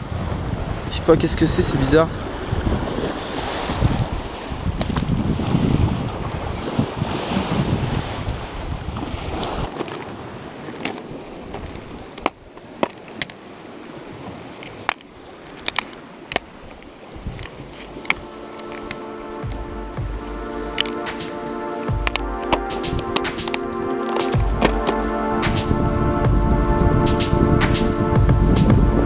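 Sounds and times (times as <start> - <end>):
wind buffeting microphone: 0.0 - 12.5, 13.9 - 21.0, 21.9 - 29.0
surf washing against rocks: 0.0 - 29.0.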